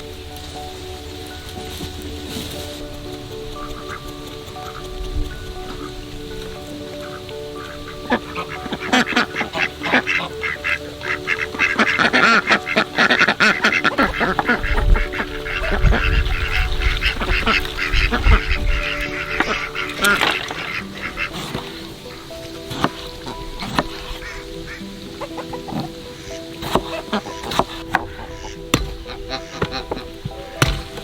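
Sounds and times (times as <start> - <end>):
waterfowl honking and quacking: 3.2 - 31.0.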